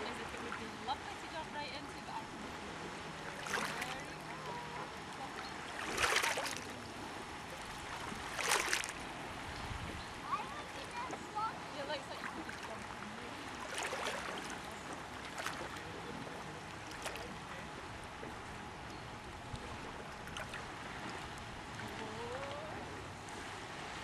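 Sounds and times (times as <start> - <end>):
water lapping against a dock: 0.0 - 24.0.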